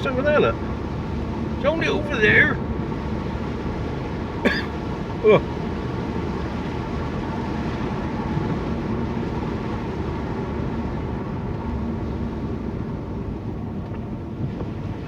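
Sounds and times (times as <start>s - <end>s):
vehicle engine and tyre noise: 0.0s - 15.0s.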